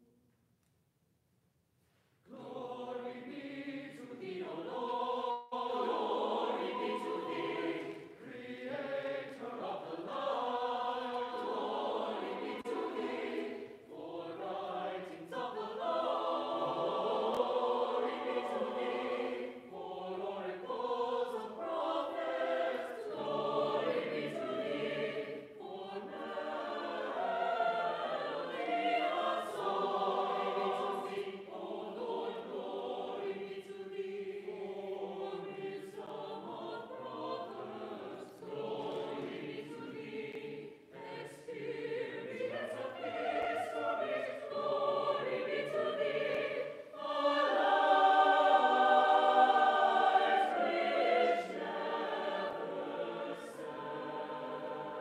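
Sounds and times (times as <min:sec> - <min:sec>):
mixed choir singing unaccompanied: 0:02.3 - 0:55.0.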